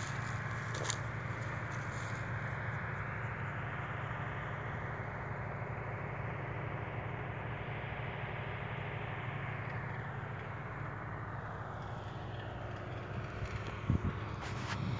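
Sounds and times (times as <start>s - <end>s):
road and air noise hiss: 0.0s - 14.9s
tractor engine droning: 0.0s - 14.9s.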